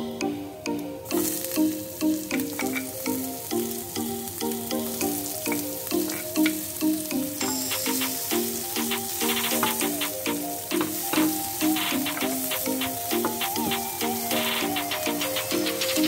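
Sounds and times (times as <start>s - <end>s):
background music: 0.0s - 16.0s
oil sizzling in a frying pan: 1.1s - 16.0s.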